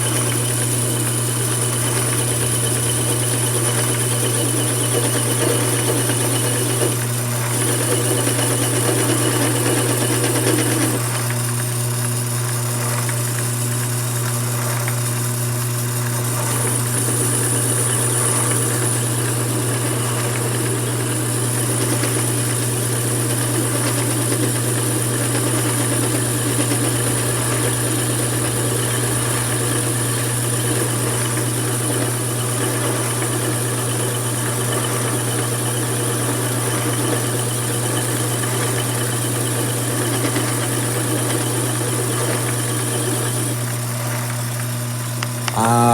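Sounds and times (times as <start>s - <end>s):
lathe motor hum and whine: 0.0s - 45.9s.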